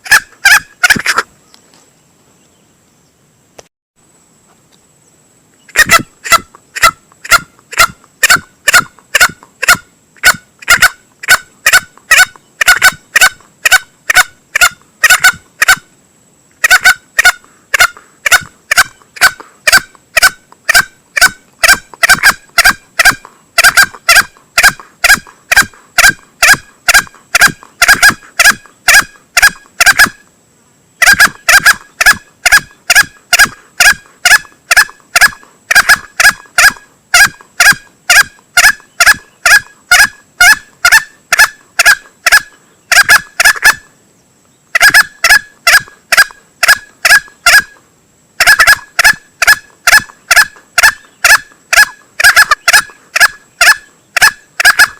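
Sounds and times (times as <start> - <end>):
junglefowl calling: 0.0 - 1.6, 5.7 - 15.9, 16.6 - 30.3, 31.0 - 43.9, 44.7 - 47.8, 48.4 - 54.9.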